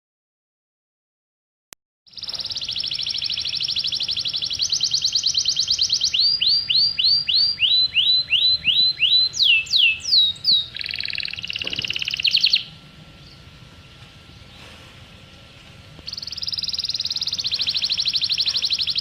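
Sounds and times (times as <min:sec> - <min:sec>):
songbird singing: 0:02.1 - 0:19.0.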